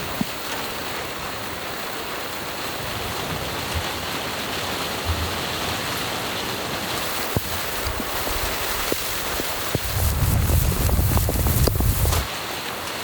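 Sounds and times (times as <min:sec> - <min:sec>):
falling rain: 0:00.0 - 0:13.0.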